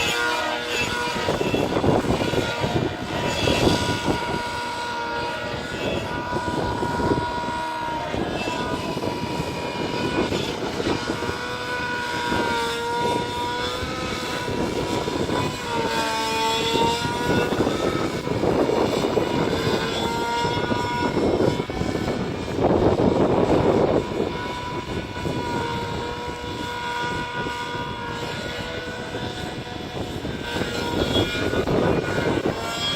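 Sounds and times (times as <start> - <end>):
model helicopter engine and rotor whine: 0.0 - 32.9.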